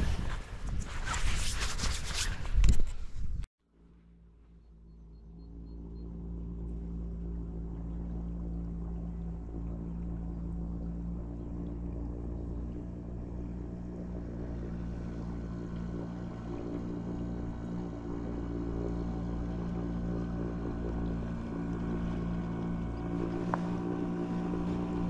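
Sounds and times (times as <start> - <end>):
motorboat engine running: 3.7 - 25.0.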